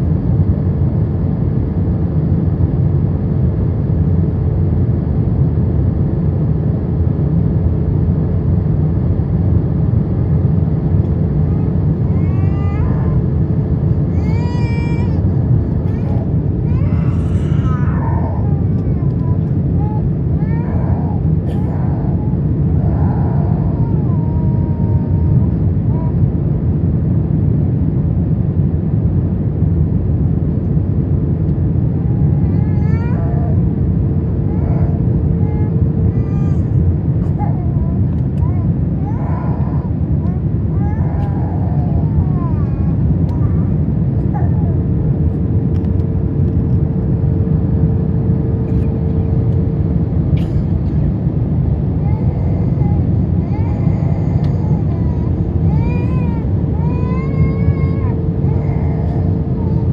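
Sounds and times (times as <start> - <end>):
airplane cabin engine roar: 0.0 - 59.9
faint steady hum: 0.0 - 59.9.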